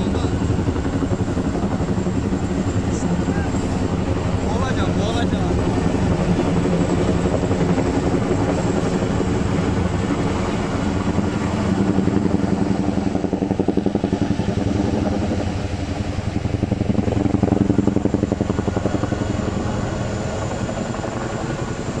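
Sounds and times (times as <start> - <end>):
helicopter rotors beating: 0.0 - 22.0.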